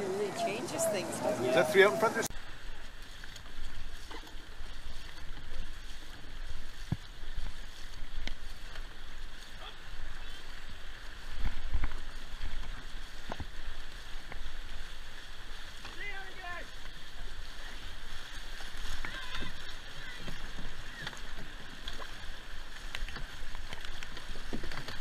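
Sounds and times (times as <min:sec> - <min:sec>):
water rushing and splashing: 0:00.0 - 0:25.0.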